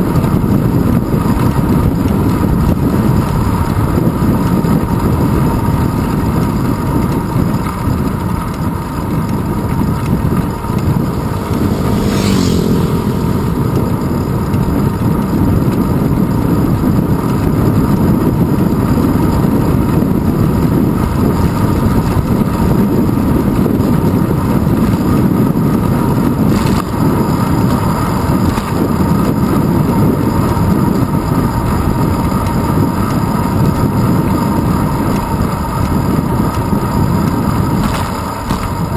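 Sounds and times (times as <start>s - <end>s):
bicycle road rumble: 0.0s - 38.9s
wind buffeting: 0.0s - 38.9s.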